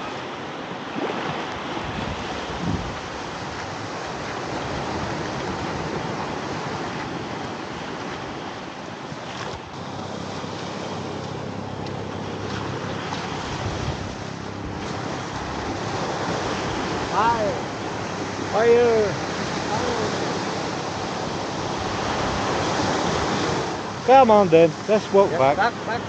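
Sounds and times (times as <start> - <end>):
small waves breaking on beach: 0.0 - 26.0
wind buffeting microphone: 0.4 - 24.2.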